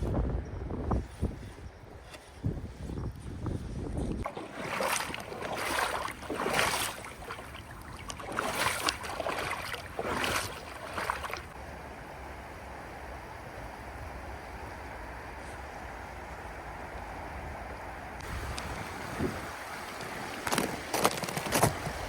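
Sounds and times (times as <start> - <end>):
creek water running: 4.2 - 22.0.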